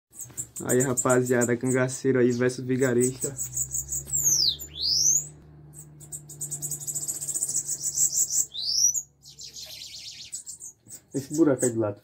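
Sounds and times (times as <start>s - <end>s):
birds whistling: 0.1s - 11.7s
fast high buzzy bird trill: 0.1s - 11.7s.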